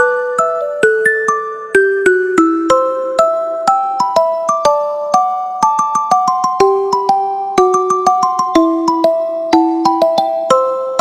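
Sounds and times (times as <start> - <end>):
mallet percussion ringtone melody: 0.0 - 11.0.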